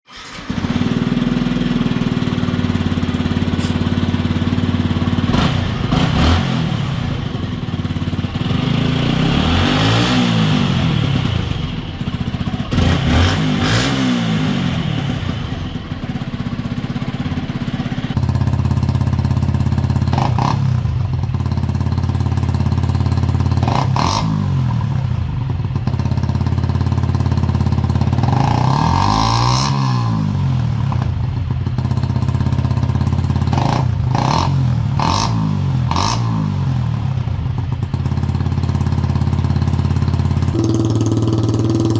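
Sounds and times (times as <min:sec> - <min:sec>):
motorcycle engine revving: 0:00.1 - 0:41.9.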